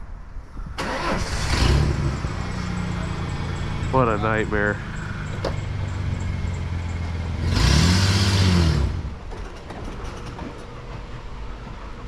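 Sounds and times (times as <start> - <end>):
truck engine revving: 0.8 - 12.0.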